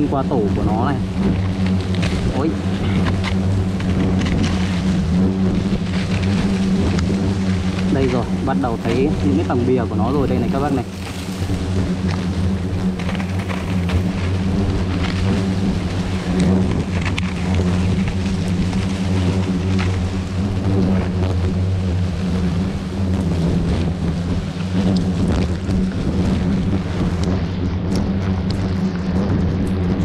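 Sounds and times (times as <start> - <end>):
hornets buzzing: 0.0 - 30.0.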